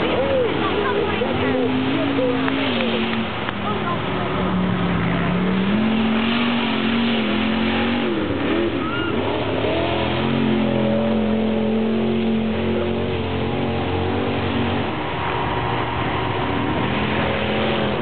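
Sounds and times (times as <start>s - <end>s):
off-road vehicle engines revving: 0.0s - 18.0s.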